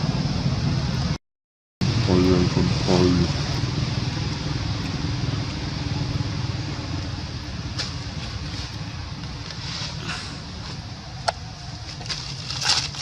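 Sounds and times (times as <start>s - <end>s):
vehicle engine running: 0.0s - 1.2s, 1.8s - 13.0s.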